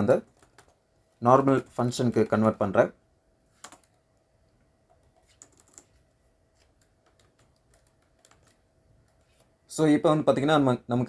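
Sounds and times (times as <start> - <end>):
faint keyboard typing: 0.0 - 2.7, 3.4 - 9.6.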